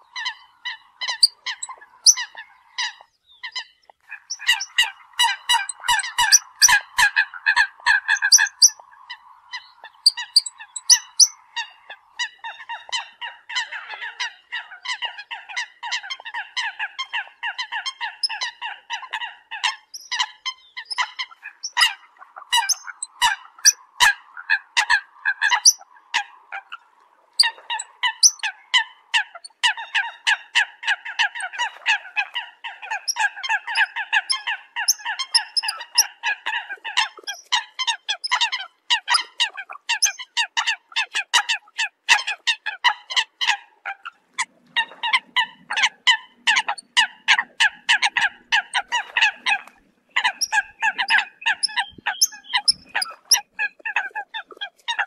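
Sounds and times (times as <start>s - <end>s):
coots calling: 0.0s - 55.0s.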